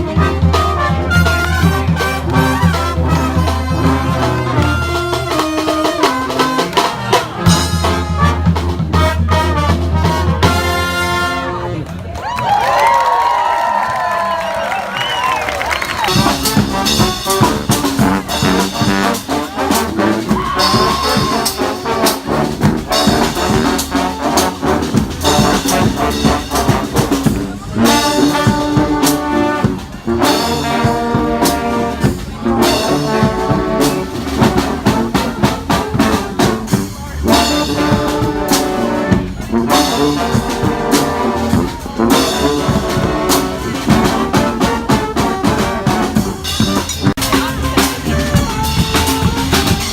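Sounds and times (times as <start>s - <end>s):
drums beating: 0.0s - 11.1s, 15.1s - 49.9s
brass band playing: 0.0s - 12.1s, 15.2s - 49.9s.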